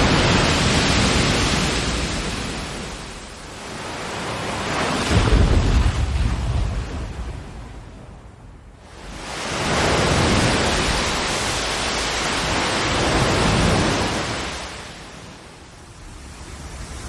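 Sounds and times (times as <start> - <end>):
ocean surf surging: 0.0 - 17.0.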